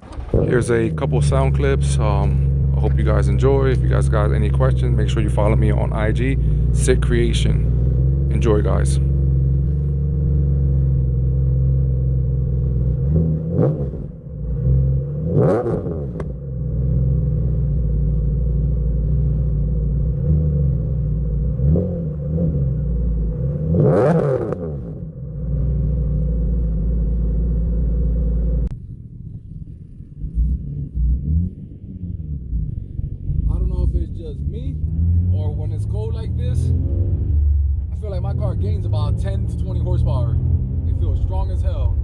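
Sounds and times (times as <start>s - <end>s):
car exhaust idling and revving: 0.0s - 42.0s.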